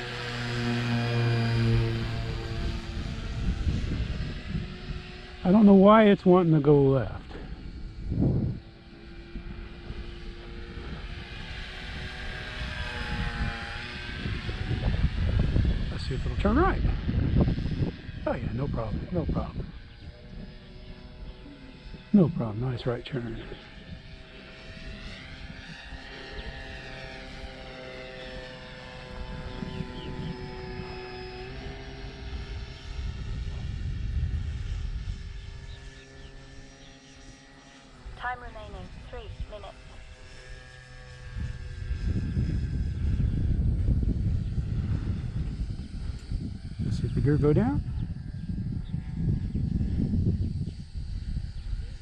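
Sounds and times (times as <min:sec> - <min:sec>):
model plane motors whining: 0:00.0 - 0:52.0
wind rumble on microphone: 0:00.0 - 0:52.0.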